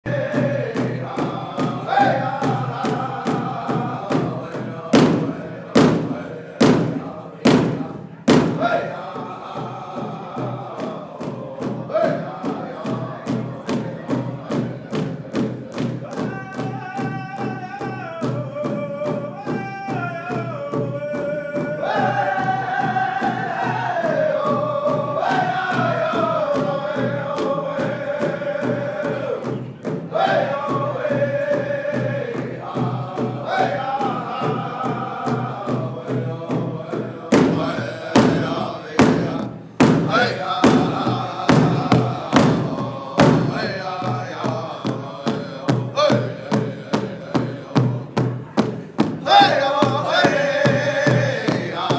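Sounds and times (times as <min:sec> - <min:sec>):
men singing in high voices: 0:00.0 - 0:51.9
large drum beating: 0:00.1 - 0:51.9.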